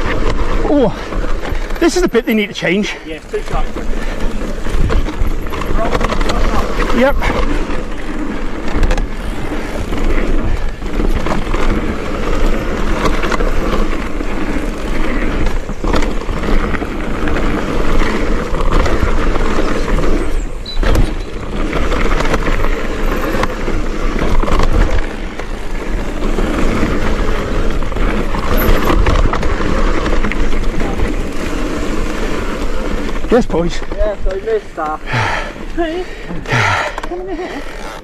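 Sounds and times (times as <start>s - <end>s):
bike tyres on dirt trail: 0.0s - 38.0s
bike knocking over bumps: 3.3s - 35.8s.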